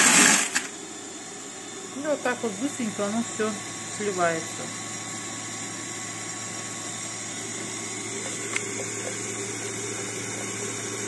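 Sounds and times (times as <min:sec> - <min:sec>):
kitchen machine motor humming: 0:00.0 - 0:11.0.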